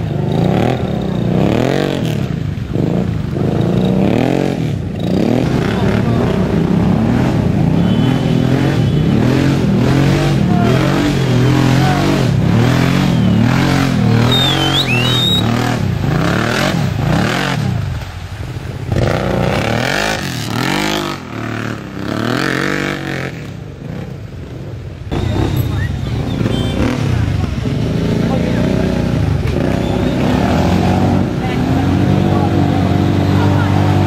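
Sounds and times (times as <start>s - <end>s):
quad bike engine revving: 0.0s - 18.0s, 18.9s - 24.2s, 25.1s - 34.0s.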